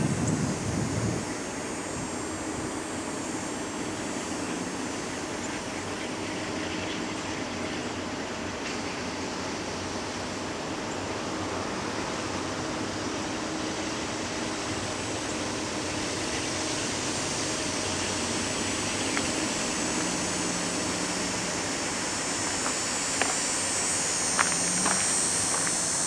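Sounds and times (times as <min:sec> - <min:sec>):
distant diesel freight train rumble: 0:00.0 - 0:26.0
high steady buzz: 0:00.0 - 0:26.0.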